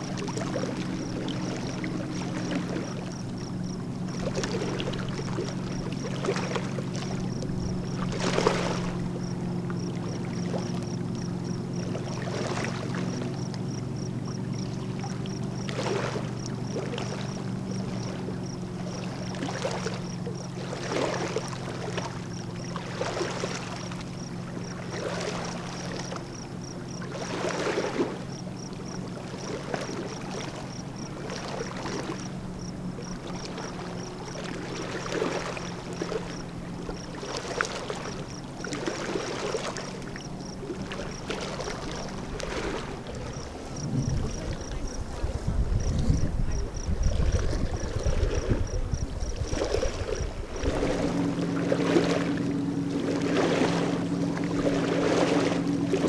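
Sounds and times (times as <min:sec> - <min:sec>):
small waves lapping: 0:00.0 - 0:56.0
steady low hum: 0:00.0 - 0:56.0.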